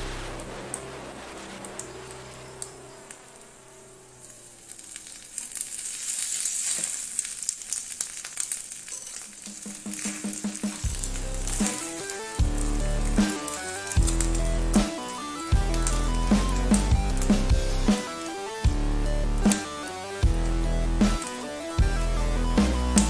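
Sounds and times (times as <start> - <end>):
egg sizzling and popping: 0.1 - 23.0.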